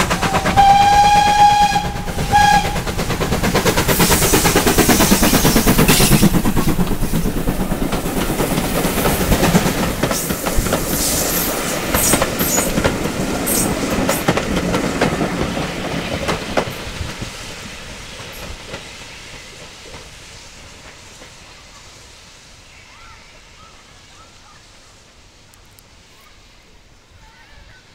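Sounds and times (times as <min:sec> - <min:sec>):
steam train passing: 0:00.0 - 0:27.9.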